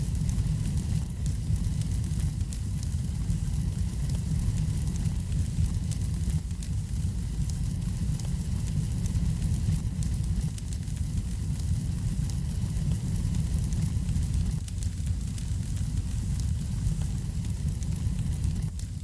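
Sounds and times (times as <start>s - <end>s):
faint fire crackles: 0.0s - 19.0s
low rumble of fire: 0.0s - 19.0s.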